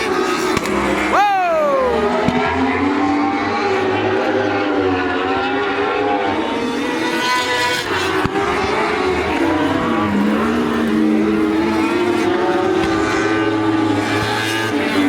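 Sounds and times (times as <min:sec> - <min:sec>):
racing car engines buzzing: 0:00.0 - 0:15.0.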